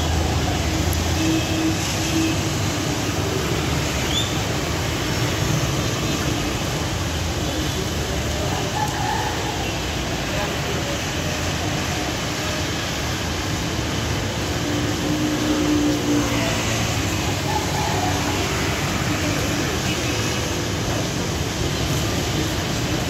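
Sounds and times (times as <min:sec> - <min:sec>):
vehicle engines on road: 0:00.0 - 0:23.0.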